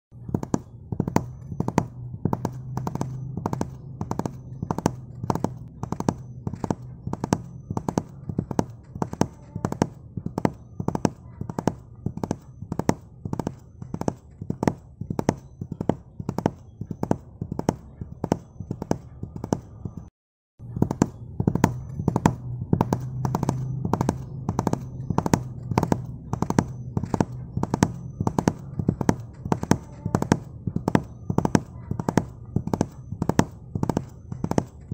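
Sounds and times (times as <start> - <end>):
horse hooves clip-clopping: 0.3 - 20.1, 20.8 - 34.9.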